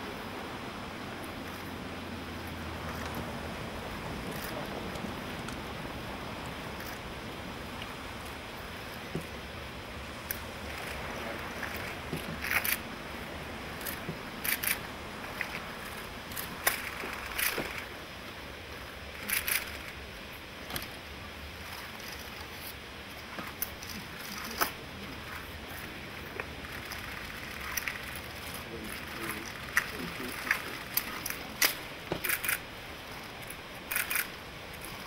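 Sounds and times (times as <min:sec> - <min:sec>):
low background noise: 0:00.0 - 0:35.0.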